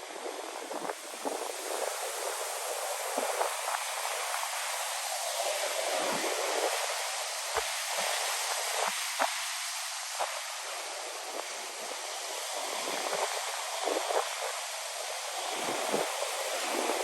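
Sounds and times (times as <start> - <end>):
ocean surf hissing: 0.0 - 17.0.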